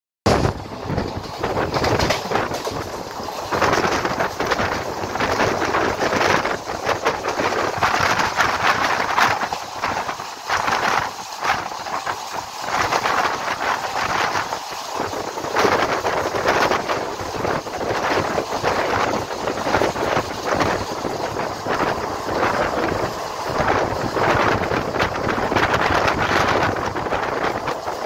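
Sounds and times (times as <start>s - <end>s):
rushing air: 0.3s - 28.0s
train wheels clattering over rails: 0.3s - 28.0s.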